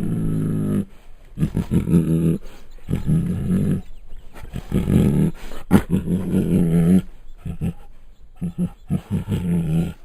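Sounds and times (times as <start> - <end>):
tiger growling: 0.0 - 10.0.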